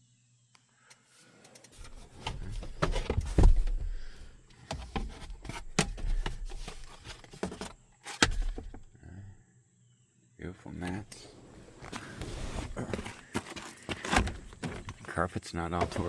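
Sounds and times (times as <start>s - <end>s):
handling noises: 1.2s - 8.9s, 10.8s - 16.0s.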